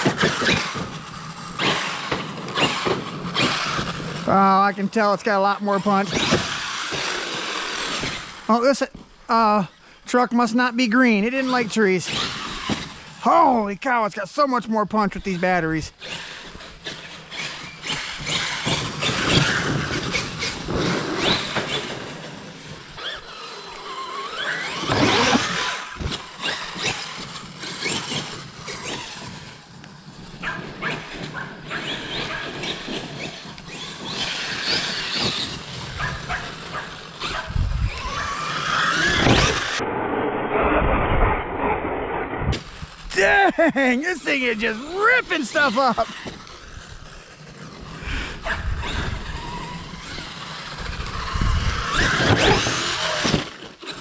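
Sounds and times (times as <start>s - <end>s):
electric motor whining: 0.0s - 9.1s, 11.1s - 13.2s, 15.2s - 43.2s, 44.2s - 54.0s
tyres tearing at turf: 0.0s - 9.6s, 15.1s - 29.7s, 30.3s - 54.0s.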